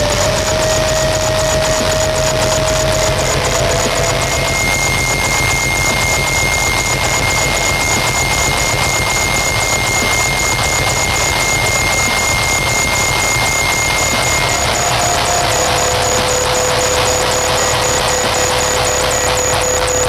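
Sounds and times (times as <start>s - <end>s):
held high tone: 0.0s - 20.0s.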